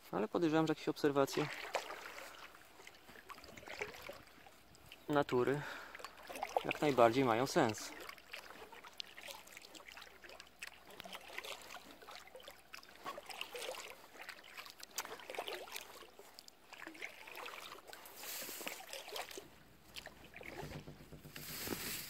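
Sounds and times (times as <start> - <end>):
paddle splashes and drips: 0.5 - 22.0.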